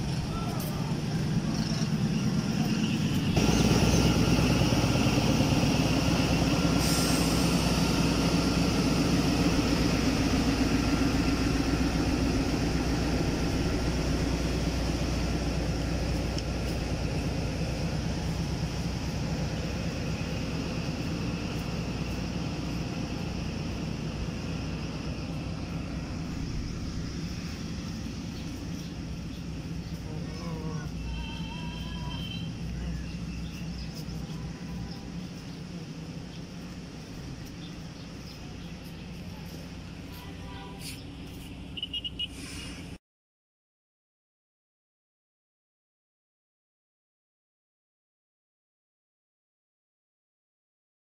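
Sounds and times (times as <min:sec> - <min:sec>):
diesel locomotive rumbling: 0:00.0 - 0:43.0.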